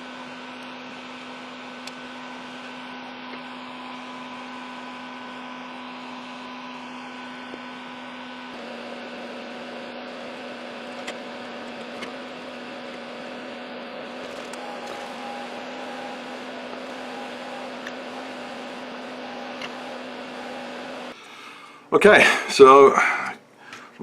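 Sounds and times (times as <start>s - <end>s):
machine whirring with low hum: 0.0s - 24.0s.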